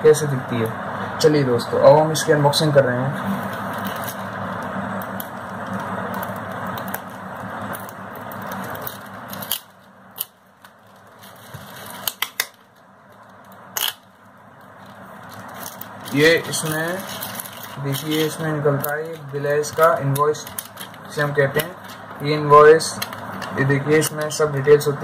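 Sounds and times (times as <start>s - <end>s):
plastic and tape crinkling: 3.2s - 24.4s
sharp plastic crackles: 3.3s - 24.4s.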